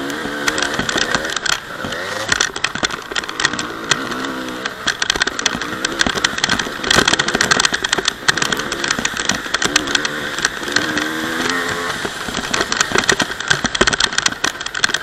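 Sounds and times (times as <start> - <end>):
dirt bike engine revving: 0.0 - 15.0
sharp clicks and rattles: 0.0 - 15.0.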